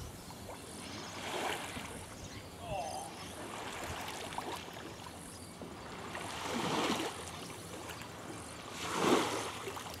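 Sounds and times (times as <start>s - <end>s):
small waves washing in: 0.0s - 10.0s.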